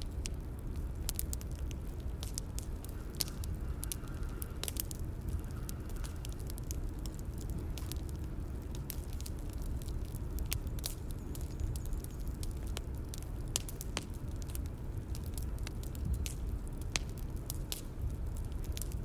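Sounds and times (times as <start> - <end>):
bonfire crackling: 0.0 - 19.0
fire pops and snaps: 0.0 - 19.0.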